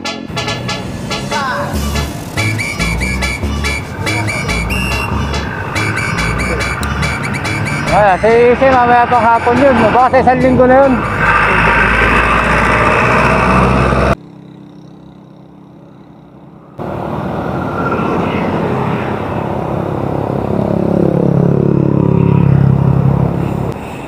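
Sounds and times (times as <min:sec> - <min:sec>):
traffic noise: 0:00.0 - 0:24.0
motor vehicle passing: 0:00.2 - 0:24.0.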